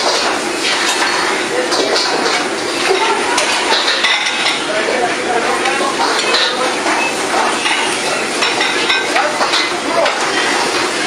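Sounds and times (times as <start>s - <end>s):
metal utensils clanging on pans: 0.0s - 11.0s.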